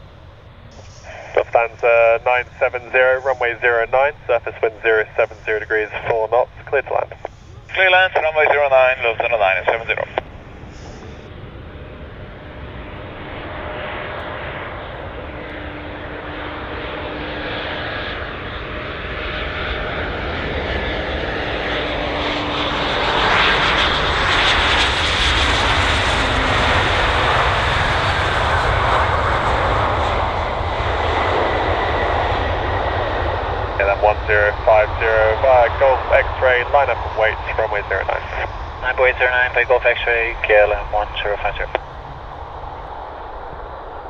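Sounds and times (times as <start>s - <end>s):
faint engine whine: 0.0s - 44.0s
jet airliner landing: 0.0s - 44.0s.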